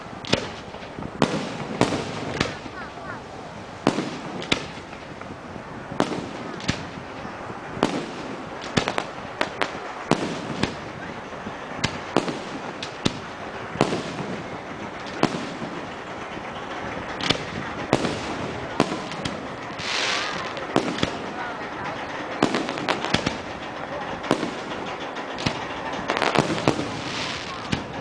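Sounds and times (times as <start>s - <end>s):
firework shells bursting: 0.0s - 2.9s, 3.8s - 28.0s
firework hiss: 0.0s - 28.0s.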